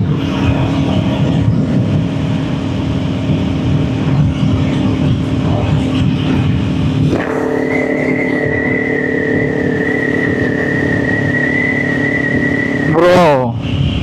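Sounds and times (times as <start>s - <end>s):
motorcycle engine running: 0.0s - 14.0s
road and wind noise: 0.0s - 14.0s
steady high whine: 0.0s - 14.0s.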